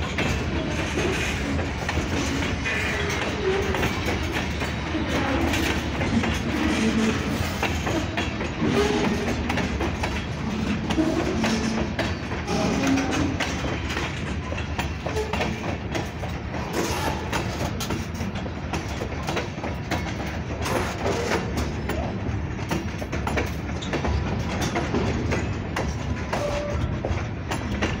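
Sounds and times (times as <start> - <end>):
freight train rumble: 0.0 - 28.0
train wheels clacking over rail joints: 0.0 - 28.0.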